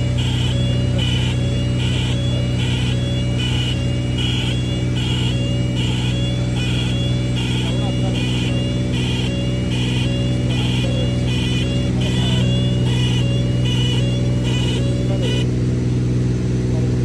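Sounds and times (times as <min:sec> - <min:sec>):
pulsing cockpit warning tone: 0:00.0 - 0:16.6
aircraft piston engine drone: 0:00.0 - 0:17.0.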